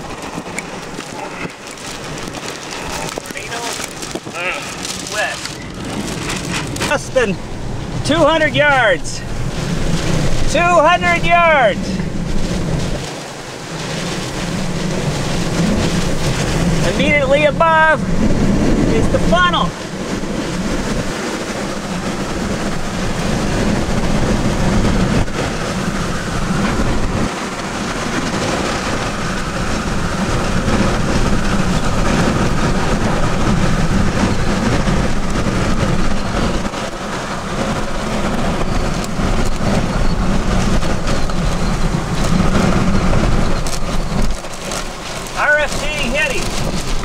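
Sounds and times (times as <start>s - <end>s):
driving rain: 0.0s - 47.0s
roaring tornado wind: 0.0s - 47.0s.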